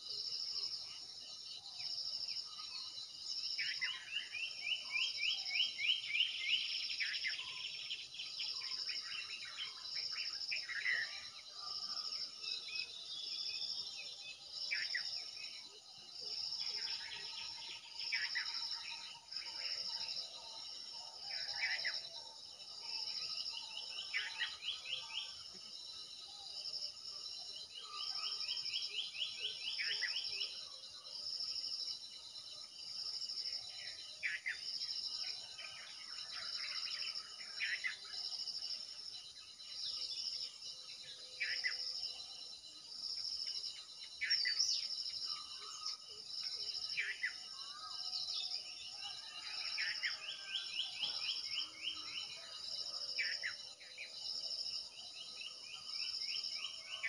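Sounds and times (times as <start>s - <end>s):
insects calling: 0.0s - 22.4s, 23.0s - 57.0s.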